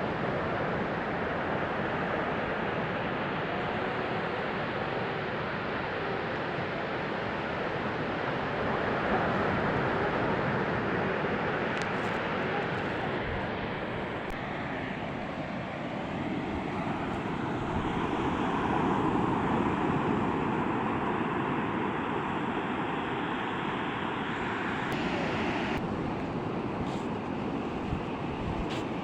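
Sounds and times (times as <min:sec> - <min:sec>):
waves washing on a beach: 0:00.0 - 0:29.0.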